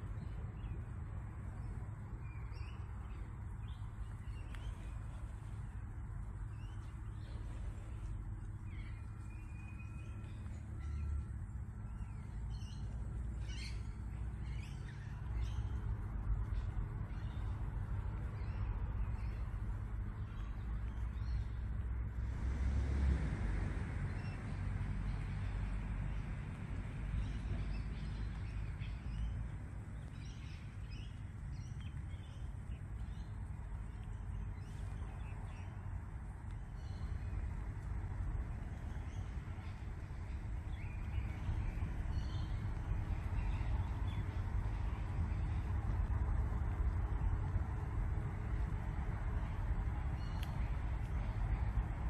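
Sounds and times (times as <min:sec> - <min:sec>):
small birds chirping: 0:00.0 - 0:22.1, 0:24.1 - 0:52.0
distant traffic rumble: 0:00.0 - 0:52.0.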